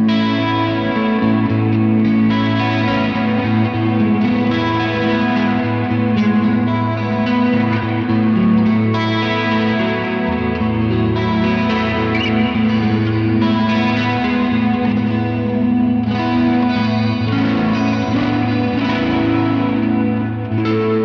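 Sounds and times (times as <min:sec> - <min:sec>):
electric guitar chords with chorus: 0:00.0 - 0:21.0.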